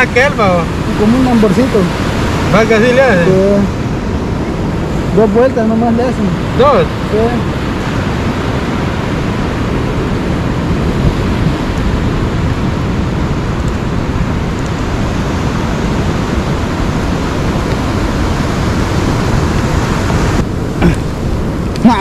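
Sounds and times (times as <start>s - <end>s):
surf washing on beach: 0.0s - 22.0s
wind rumbling on microphone: 0.0s - 22.0s.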